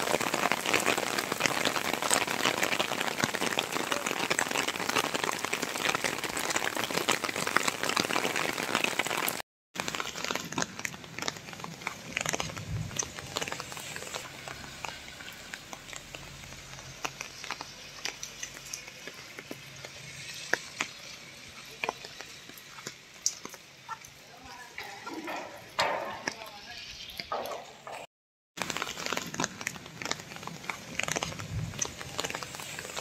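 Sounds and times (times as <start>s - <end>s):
heavy rain hissing: 0.0s - 27.9s, 28.6s - 33.0s
rain dripping on wet paving: 0.0s - 27.9s, 28.6s - 33.0s.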